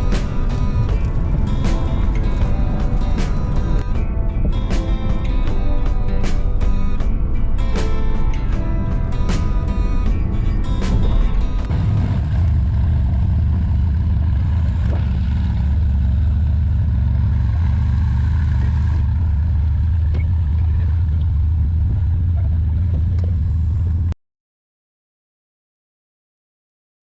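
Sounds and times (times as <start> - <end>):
vehicle road and engine drone: 0.0 - 24.2.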